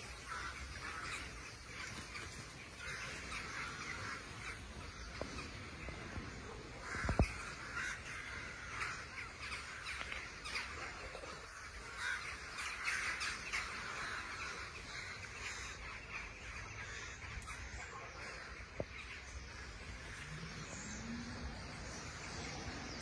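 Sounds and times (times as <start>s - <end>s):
crows cawing: 0.0s - 21.0s.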